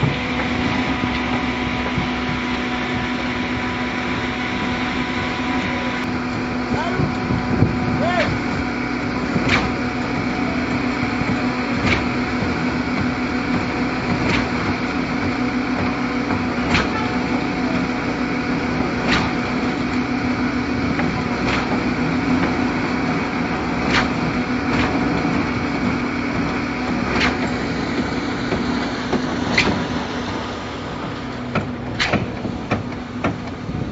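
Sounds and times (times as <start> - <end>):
concrete pump engine droning: 0.0 - 33.9.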